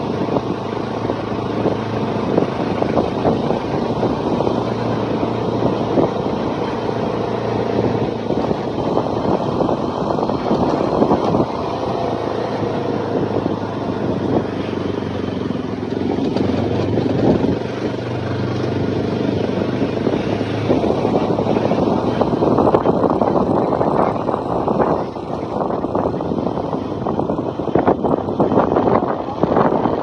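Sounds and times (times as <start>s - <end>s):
motorcycle engine hum: 0.0s - 30.0s
wind rushing over microphone: 0.0s - 30.0s.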